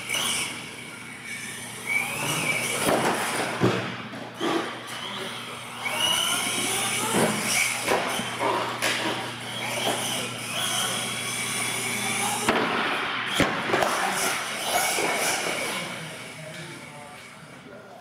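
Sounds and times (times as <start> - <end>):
toy truck motor whining: 0.0 - 3.7, 4.4 - 12.5, 13.9 - 17.0.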